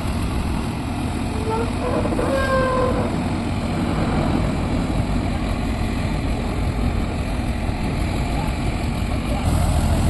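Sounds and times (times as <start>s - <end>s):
heavy machine engine running: 0.0s - 10.0s.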